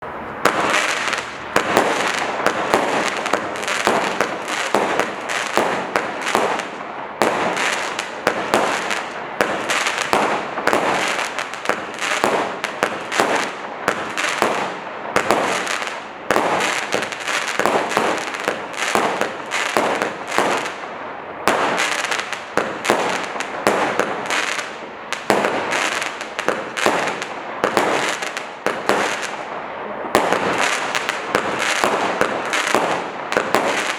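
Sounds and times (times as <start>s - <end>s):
fireworks crackling and popping: 0.0s - 33.9s.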